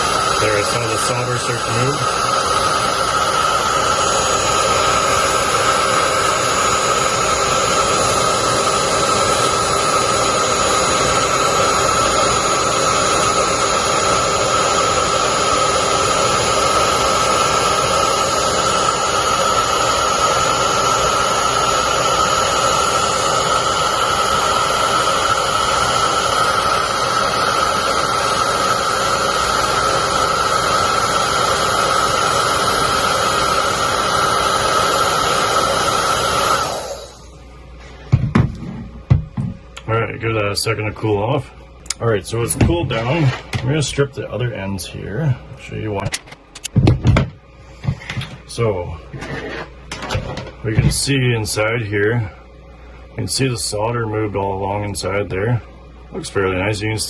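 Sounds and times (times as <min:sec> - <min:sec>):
heat gun fan whine: 0:00.0 - 0:57.0.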